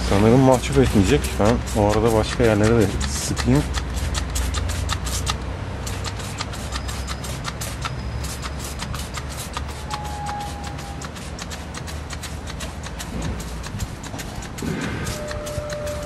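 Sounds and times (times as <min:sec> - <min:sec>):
spray bottle short sprays: 0:00.0 - 0:16.0.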